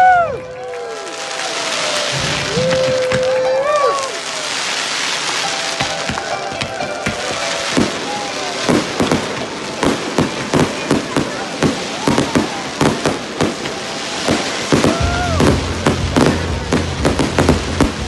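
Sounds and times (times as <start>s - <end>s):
fireworks banging and crackling: 0.0s - 18.0s.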